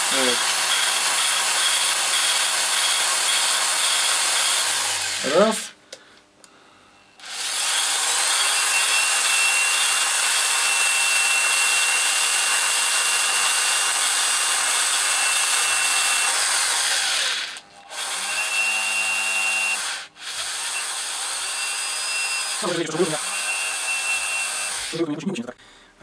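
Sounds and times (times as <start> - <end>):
cordless screwdriver motor whine: 0.0 - 5.6, 7.2 - 25.0.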